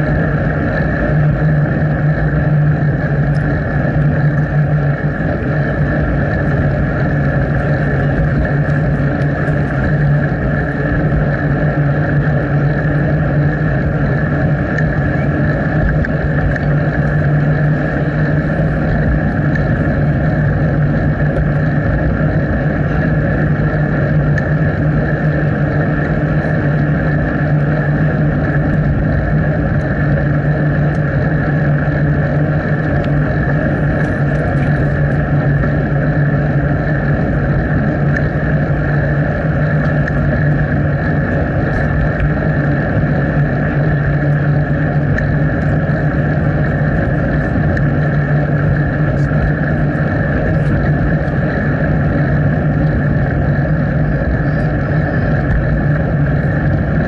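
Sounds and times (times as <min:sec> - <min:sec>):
bicycle riding rumble: 0:00.0 - 0:57.0
wind on microphone: 0:00.0 - 0:57.0.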